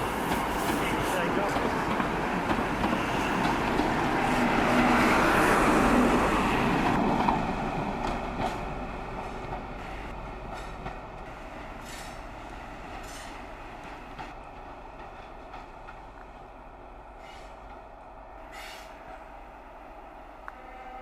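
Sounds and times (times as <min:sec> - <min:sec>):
train running along track: 0:00.0 - 0:21.0.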